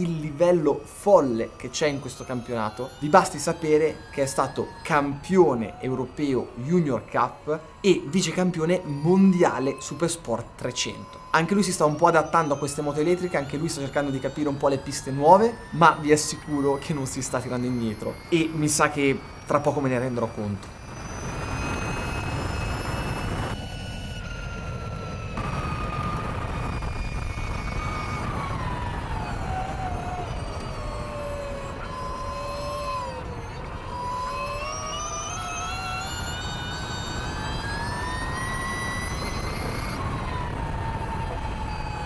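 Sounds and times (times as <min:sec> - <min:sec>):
electric motorcycle motor whine: 0:00.0 - 0:42.0.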